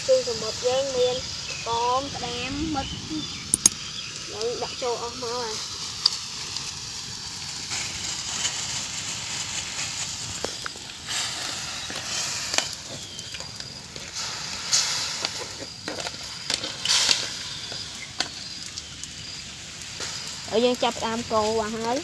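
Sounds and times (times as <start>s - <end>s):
fire crackling and popping: 0.0s - 22.0s
food sizzling in a wok: 0.0s - 22.0s.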